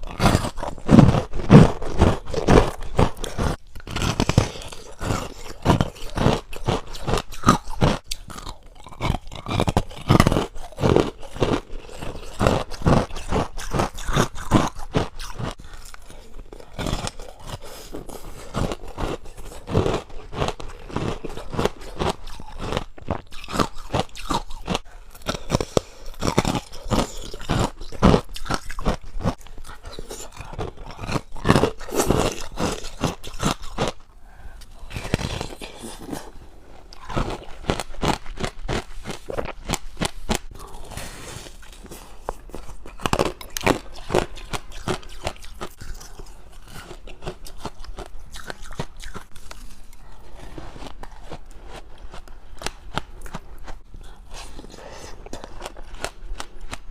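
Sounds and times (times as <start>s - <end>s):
chewing ice crunching: 0.0s - 56.9s.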